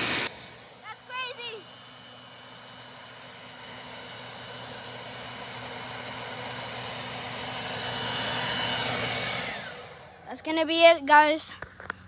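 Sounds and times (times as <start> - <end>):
leaf blower running: 0.0 - 12.0.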